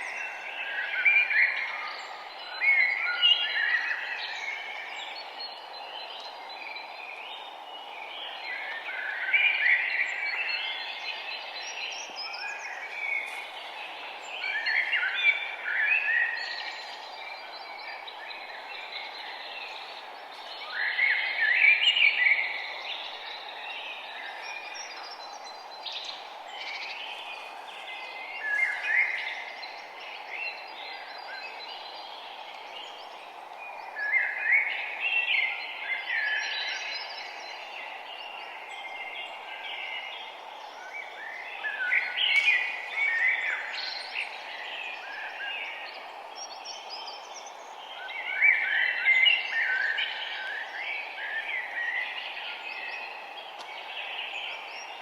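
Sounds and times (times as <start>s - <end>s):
songbirds singing: 0.0s - 55.0s
steady background hiss: 0.0s - 55.0s.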